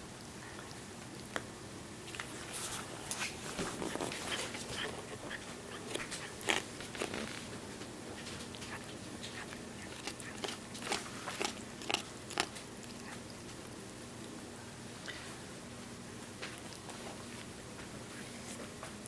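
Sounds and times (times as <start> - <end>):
pet chewing with gritty crunches: 0.0 - 18.7.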